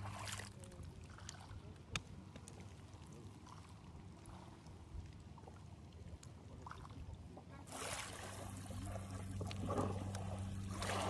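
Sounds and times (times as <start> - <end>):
low steady rumble: 0.0 - 6.2, 7.0 - 11.0
water lapping and trickling: 0.0 - 11.0.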